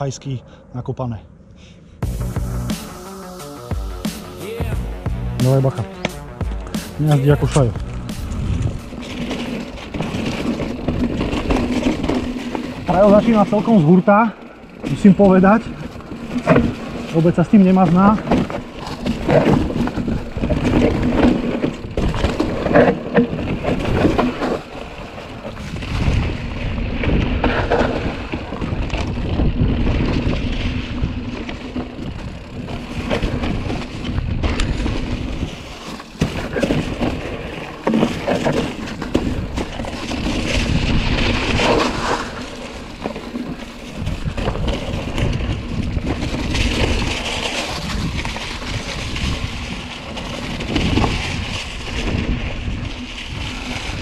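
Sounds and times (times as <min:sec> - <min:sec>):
bike tyres over leaves and rocks: 0:02.0 - 0:54.0
bike knocks and rattles: 0:04.6 - 0:54.0
wind buffeting microphone: 0:07.2 - 0:13.8, 0:14.4 - 0:35.8, 0:38.2 - 0:54.0.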